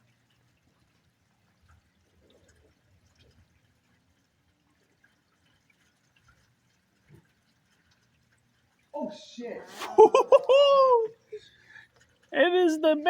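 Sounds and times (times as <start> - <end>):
faint rain drips: 0.0 - 13.0.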